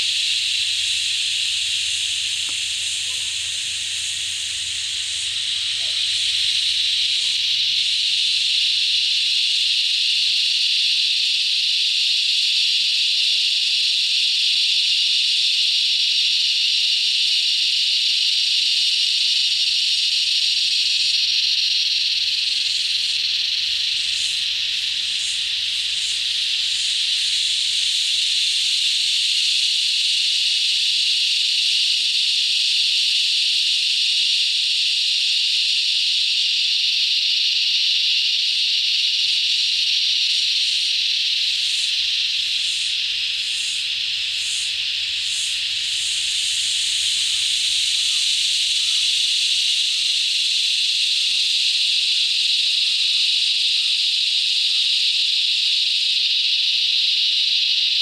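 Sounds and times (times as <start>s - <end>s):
cicadas singing: 0.0s - 58.0s.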